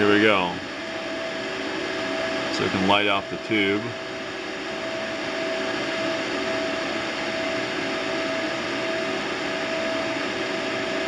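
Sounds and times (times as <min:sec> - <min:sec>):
constant hum: 0:00.0 - 0:10.8
cooling fans whooshing: 0:00.0 - 0:11.0.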